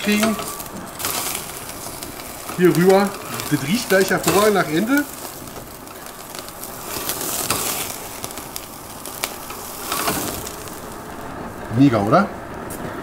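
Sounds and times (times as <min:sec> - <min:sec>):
crackling pops: 0:00.0 - 0:13.0
meat sizzling on a grill: 0:00.0 - 0:13.0.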